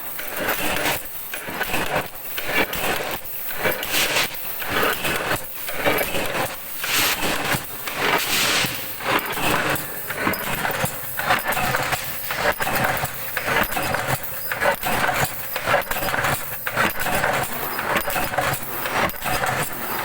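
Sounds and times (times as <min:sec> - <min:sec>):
steady machine clatter: 0:00.0 - 0:20.0.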